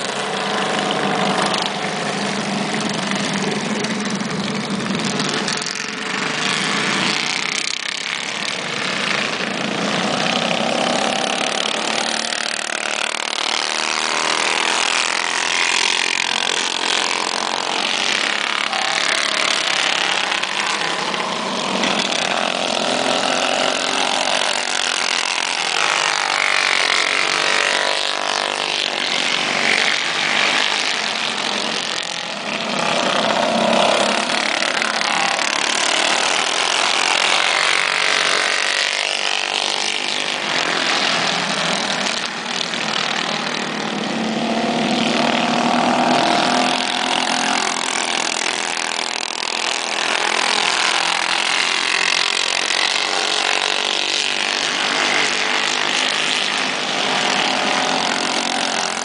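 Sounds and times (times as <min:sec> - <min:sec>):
go-kart engines buzzing: 0:00.0 - 0:59.0.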